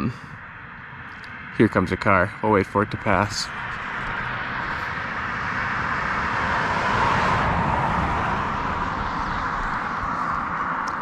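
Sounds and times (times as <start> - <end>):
car passing on highway: 0.1 - 11.0.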